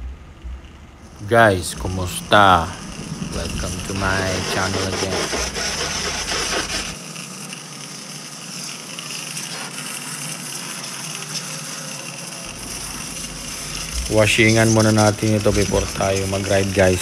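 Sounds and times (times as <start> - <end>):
water jet spraying from hose: 1.0 - 17.0.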